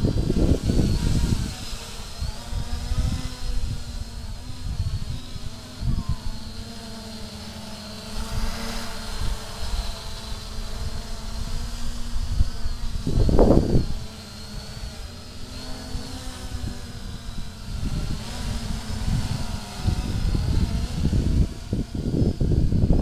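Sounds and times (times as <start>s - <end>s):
drone propellers buzzing: 0.0s - 23.0s
wind rumbling on microphone: 0.0s - 23.0s.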